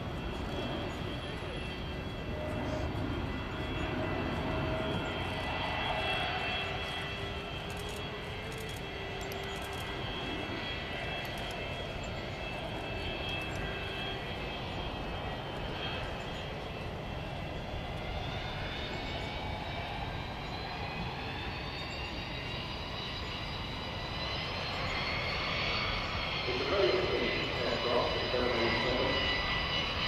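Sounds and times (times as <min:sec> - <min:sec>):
jet engines passing overhead: 0:00.0 - 0:30.0.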